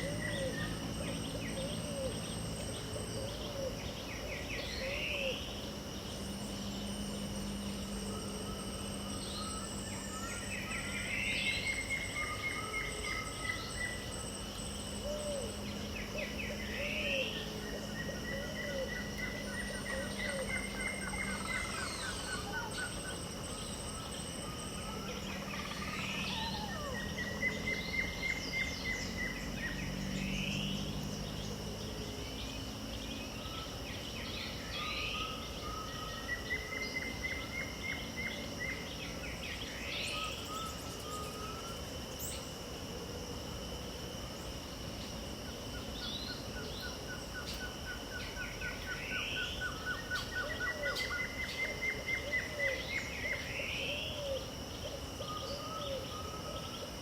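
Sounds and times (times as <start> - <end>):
low drone: 0.0 - 50.6
high-pitched insect drone: 0.0 - 57.0.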